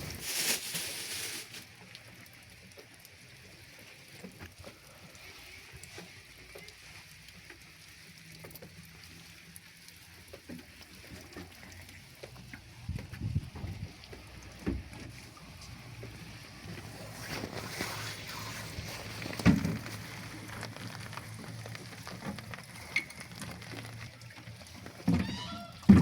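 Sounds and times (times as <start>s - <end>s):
drips and patters: 0.0s - 26.0s
steady rain falling: 0.0s - 26.0s.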